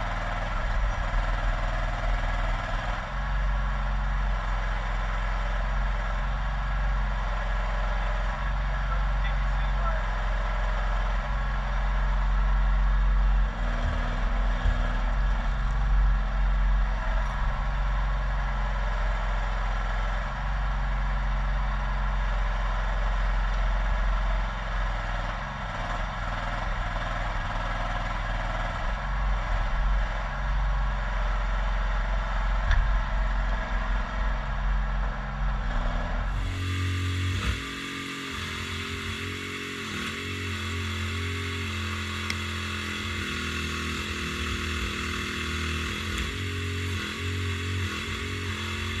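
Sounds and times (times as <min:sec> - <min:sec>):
mini excavator engine running: 0:00.0 - 0:49.0.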